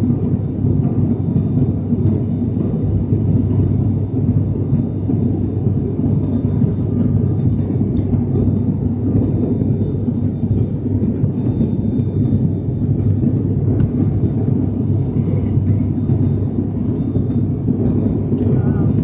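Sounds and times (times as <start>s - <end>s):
airplane cabin drone: 0.0s - 19.0s
steady low hum: 0.0s - 19.0s.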